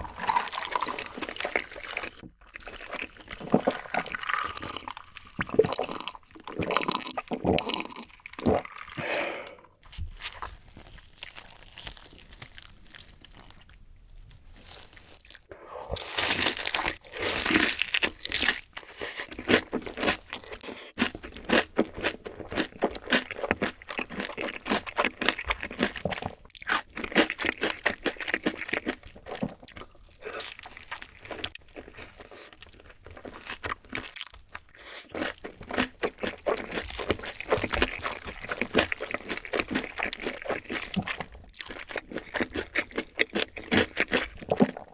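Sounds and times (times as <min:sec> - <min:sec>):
crunching and chewing fried food: 0:00.0 - 0:09.1, 0:09.8 - 0:44.9.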